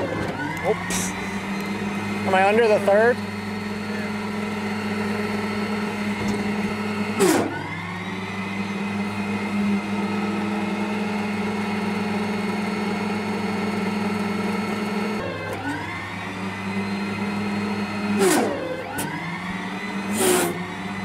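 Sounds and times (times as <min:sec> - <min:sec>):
hydraulics surge: 0:00.0 - 0:11.8, 0:14.5 - 0:21.0
electric loader motor whining: 0:00.0 - 0:21.0.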